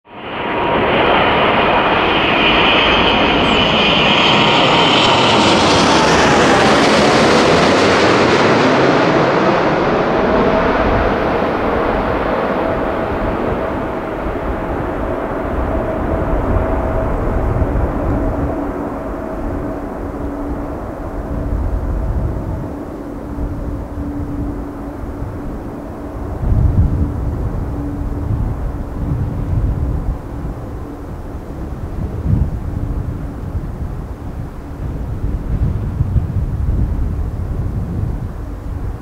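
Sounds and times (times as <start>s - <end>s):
jet airliner passing overhead: 0.1s - 39.0s.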